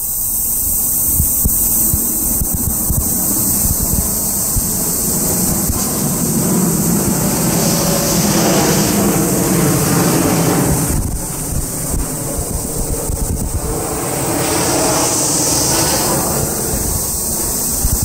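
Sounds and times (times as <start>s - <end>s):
wind buffeting microphone: 0.4s - 18.0s
low rumble: 1.3s - 18.0s.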